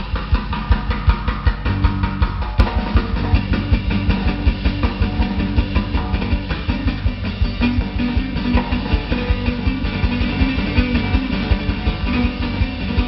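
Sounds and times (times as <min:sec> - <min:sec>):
drum kit: 0:00.0 - 0:13.0.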